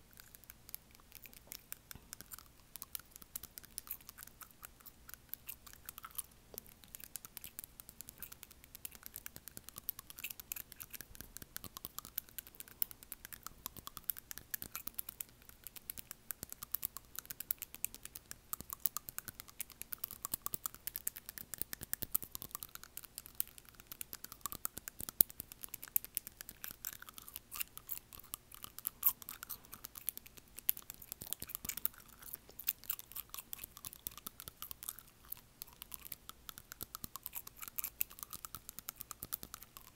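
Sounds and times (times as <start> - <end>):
fingernails tapping on teeth: 0.0 - 39.9
wet gum chewing sounds: 0.0 - 39.9.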